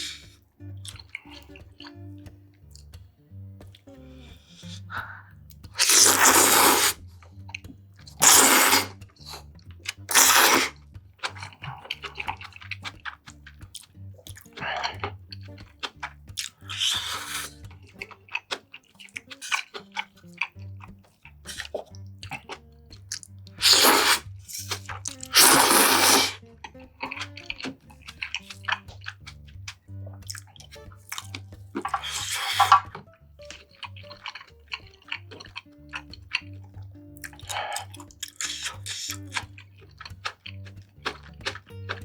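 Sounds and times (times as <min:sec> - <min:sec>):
chewing: 0:00.0 - 0:42.0
loud bursts of eating: 0:00.0 - 0:42.0
mouth clicks: 0:00.0 - 0:42.0
soft background music: 0:00.0 - 0:42.0.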